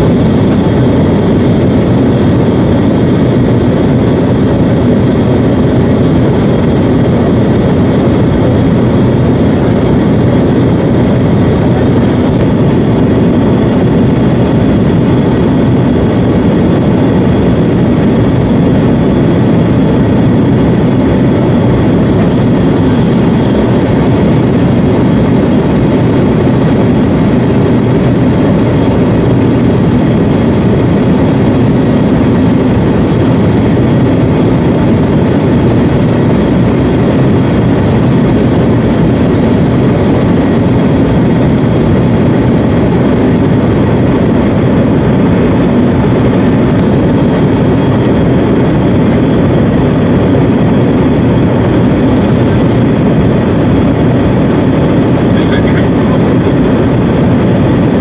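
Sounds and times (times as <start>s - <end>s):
jet airliner cabin roar: 0.0s - 58.0s.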